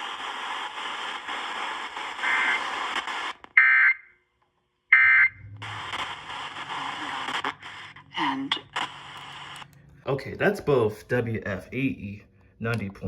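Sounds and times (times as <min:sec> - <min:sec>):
radio reception hiss: 0:00.0 - 0:04.0, 0:04.9 - 0:12.0.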